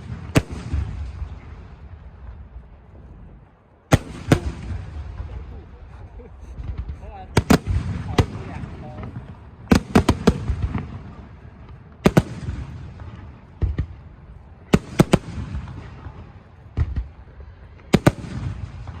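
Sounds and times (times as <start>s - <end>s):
low rolling rumble: 0.0s - 19.0s.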